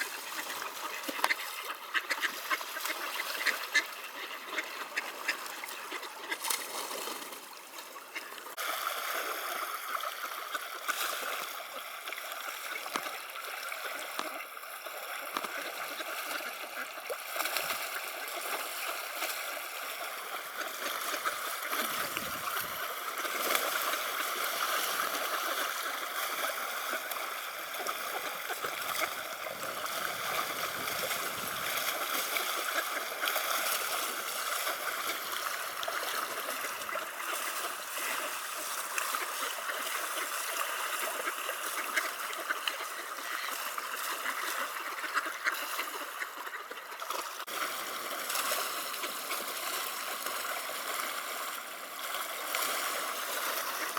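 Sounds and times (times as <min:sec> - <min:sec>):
river water flowing: 0:00.0 - 0:53.9
small water splashes: 0:00.0 - 0:53.9.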